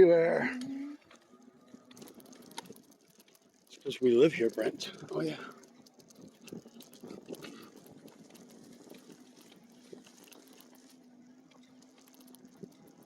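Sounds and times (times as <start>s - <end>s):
bike tyres on dirt trail: 0.0s - 13.0s
low steady hum: 0.0s - 13.0s.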